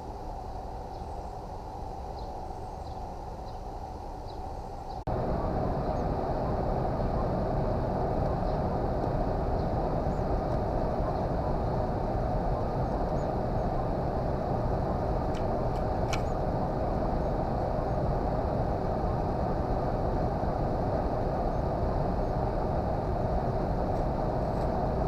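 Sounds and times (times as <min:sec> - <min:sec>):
air conditioner whirring: 0:00.0 - 0:25.0.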